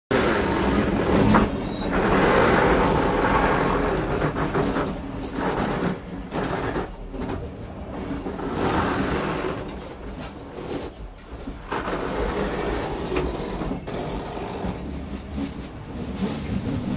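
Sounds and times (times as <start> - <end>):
train wheels rumbling on track: 0.1 - 16.9.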